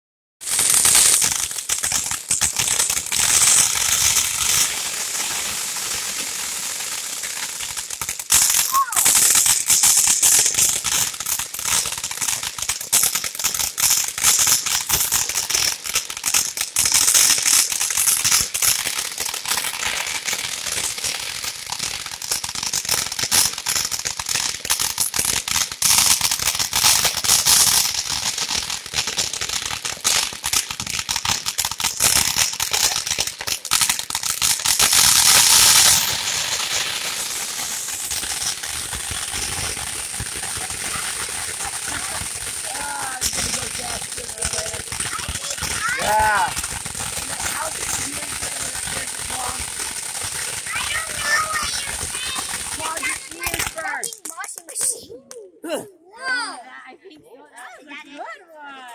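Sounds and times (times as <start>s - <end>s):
firework fountain crackling hiss: 0.4s - 55.1s.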